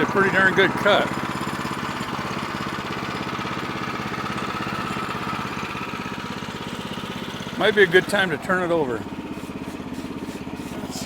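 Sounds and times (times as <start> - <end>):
small gas engine running: 0.0 - 11.0.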